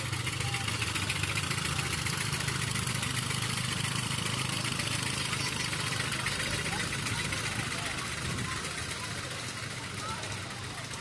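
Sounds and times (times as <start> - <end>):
wheels rumbling on track: 0.0 - 11.0.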